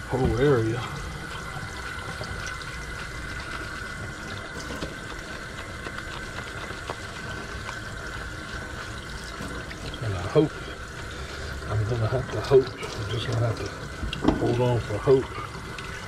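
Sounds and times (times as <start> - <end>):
faucet running into steel sink: 0.0 - 6.0, 6.7 - 16.0
water splashing: 0.0 - 16.0.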